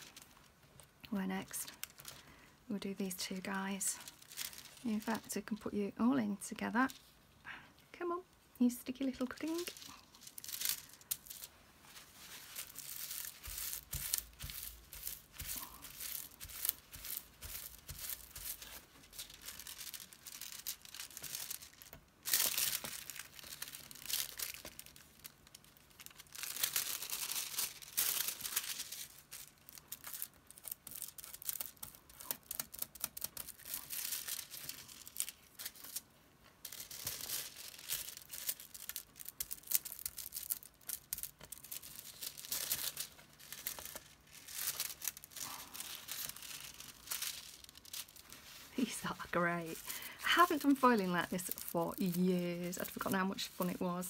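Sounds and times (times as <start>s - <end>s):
foil sheet crinkling: 0.0s - 0.6s, 1.4s - 5.6s, 9.0s - 54.0s.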